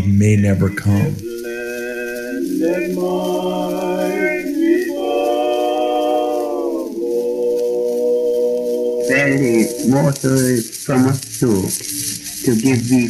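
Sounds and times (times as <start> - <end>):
unaccompanied voices singing: 0.6 - 13.0.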